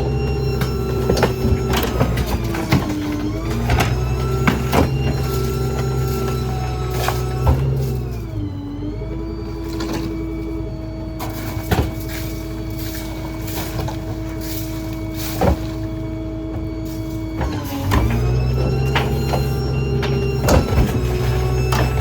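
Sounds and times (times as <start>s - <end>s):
garbage truck engine and hydraulics: 0.0s - 22.0s.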